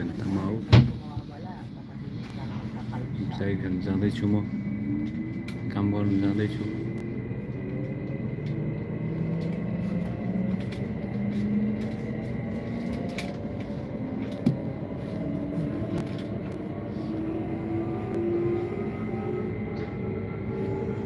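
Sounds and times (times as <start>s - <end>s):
train rumble and motor hum: 0.0s - 21.0s
steady high tone: 3.4s - 21.0s.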